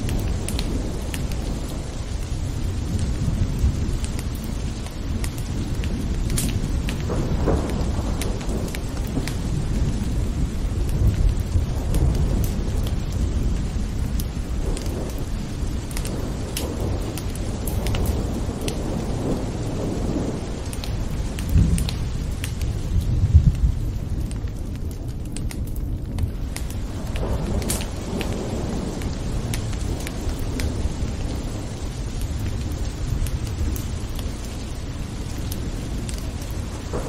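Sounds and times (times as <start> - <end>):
steady rain: 0.0 - 37.0
thunder rumbling: 0.0 - 37.0.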